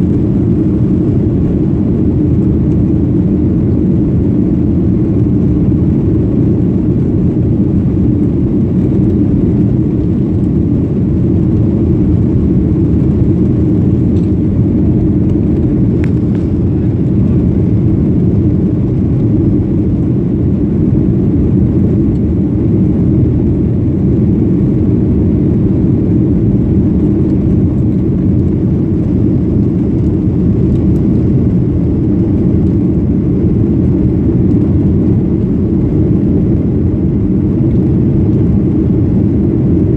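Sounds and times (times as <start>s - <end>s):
jet engines rumbling: 0.0s - 39.9s
rushing air: 5.9s - 39.9s.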